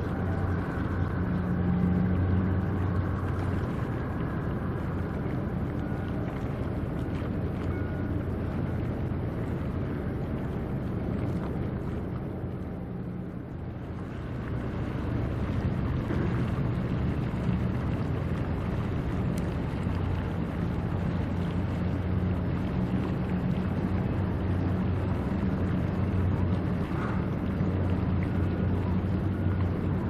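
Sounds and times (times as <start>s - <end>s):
ship engine drone: 0.0s - 30.0s
wind noise on microphone: 0.0s - 30.0s.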